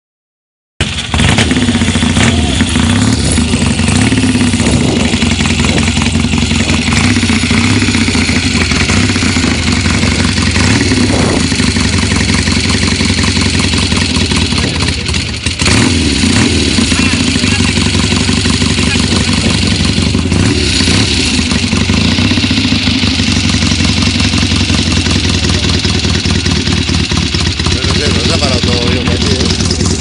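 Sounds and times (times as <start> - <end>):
motorcycle engine fast idle: 0.9 - 30.0.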